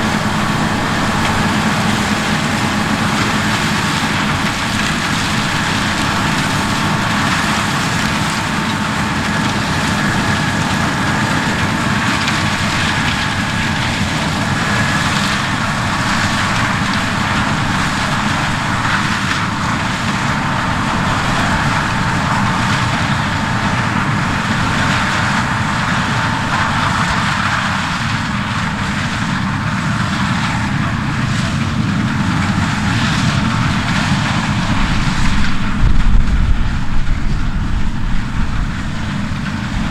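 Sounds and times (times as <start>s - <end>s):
farm machinery engine drone: 0.0s - 39.9s.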